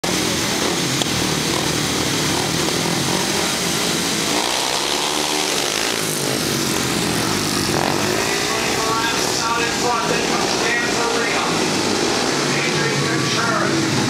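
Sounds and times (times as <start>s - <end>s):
motorcycles racing: 0.0s - 14.0s.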